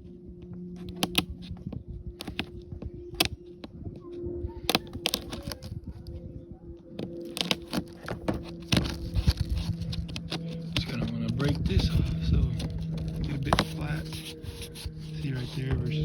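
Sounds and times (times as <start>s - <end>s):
dashboard plastic cracking and snapping: 0.5s - 3.8s, 4.6s - 6.1s, 6.9s - 16.0s.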